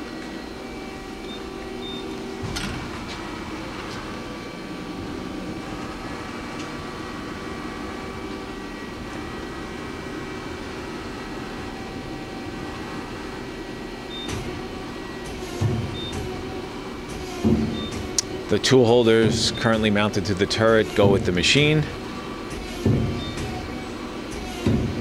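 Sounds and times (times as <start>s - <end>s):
machine tool humming: 0.0s - 25.0s.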